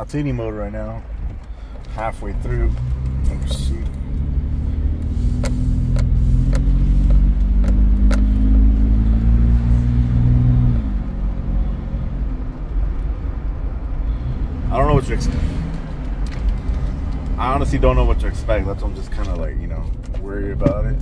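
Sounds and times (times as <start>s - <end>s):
low road rumble: 0.0s - 21.0s
car engine accelerating: 0.6s - 21.0s.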